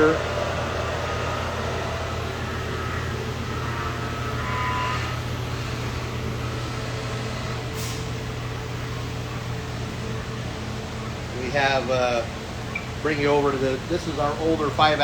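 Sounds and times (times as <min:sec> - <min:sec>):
machine-shop equipment hum: 0:00.0 - 0:15.0.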